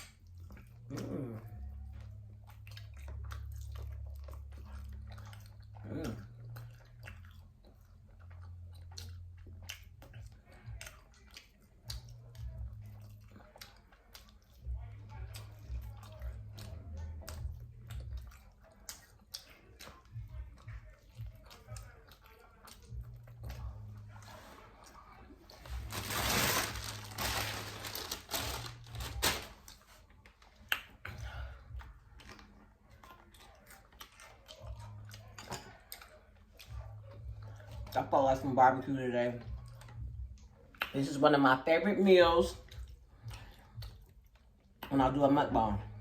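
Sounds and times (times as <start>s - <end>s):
person chewing food: 0.0s - 38.5s, 39.2s - 41.2s, 42.0s - 46.0s.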